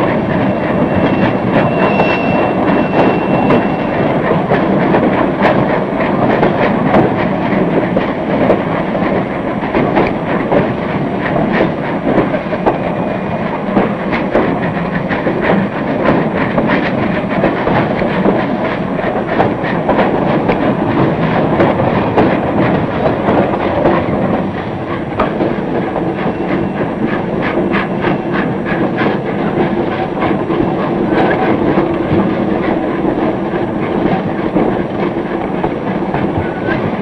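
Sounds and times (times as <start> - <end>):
train wheels clicking over rail joints: 0.0 - 37.0.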